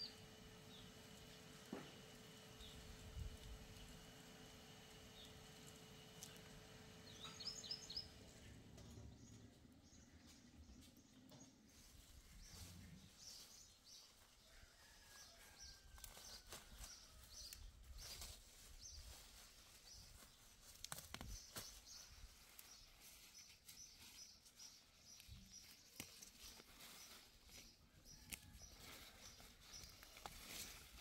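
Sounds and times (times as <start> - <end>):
rural outdoor ambience: 0.0 - 31.0.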